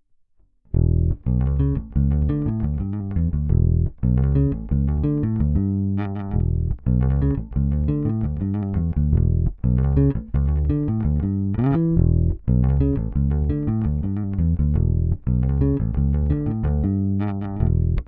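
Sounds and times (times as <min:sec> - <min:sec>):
electric bass plucked notes: 0:00.7 - 0:18.0.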